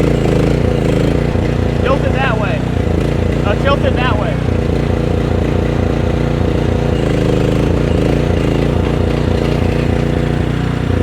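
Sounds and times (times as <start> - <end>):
heavy equipment diesel engine under load: 0.0 - 11.0.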